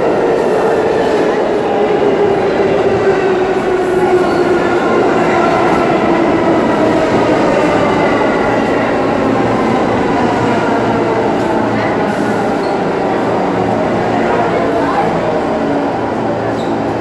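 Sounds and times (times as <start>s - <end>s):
subway train wheels rumbling: 0.0s - 17.0s.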